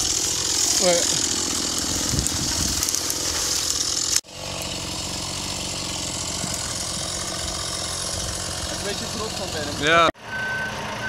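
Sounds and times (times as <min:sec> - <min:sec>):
chainsaw cutting brush: 0:00.0 - 0:10.1.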